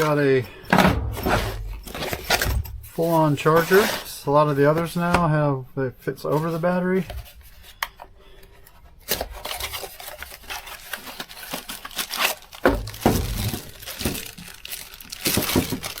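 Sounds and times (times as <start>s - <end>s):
packaging crinkling and rustling: 1.2s - 5.2s, 6.3s - 16.0s.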